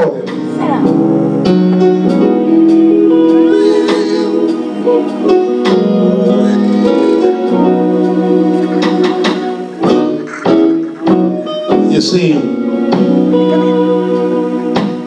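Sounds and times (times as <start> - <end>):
guitar: 0.0 - 15.0
keyboard chords: 0.0 - 15.0.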